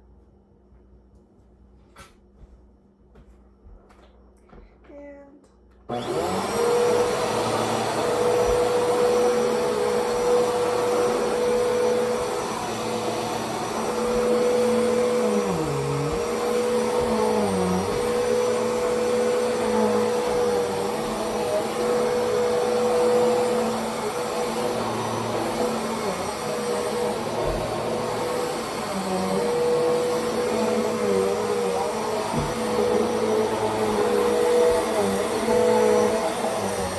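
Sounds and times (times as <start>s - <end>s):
vacuum cleaner motor whine: 5.9s - 36.9s.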